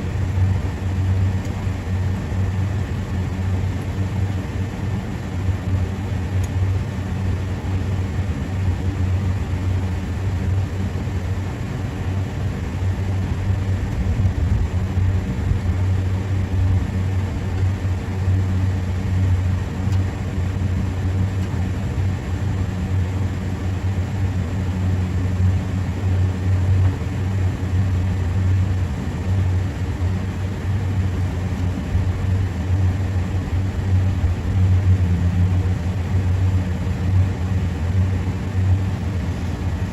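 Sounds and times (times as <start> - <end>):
low machinery hum: 0.0 - 39.9.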